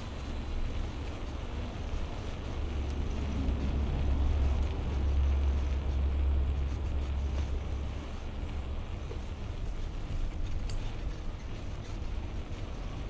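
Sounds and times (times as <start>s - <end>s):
street hiss: 0.0s - 13.0s
vehicle engine rumble passing: 0.0s - 13.0s.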